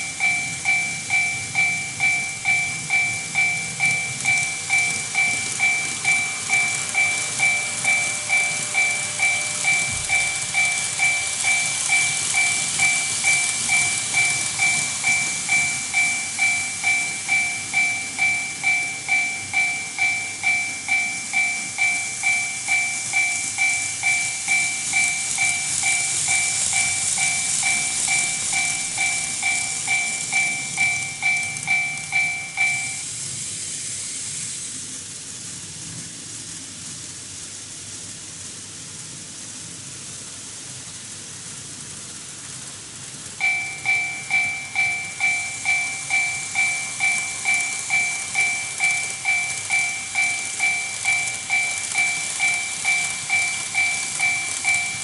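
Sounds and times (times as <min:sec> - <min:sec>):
electronic warning bell dinging: 0:00.0 - 0:33.1, 0:43.4 - 0:55.0
model train wheels on track: 0:00.0 - 0:55.0.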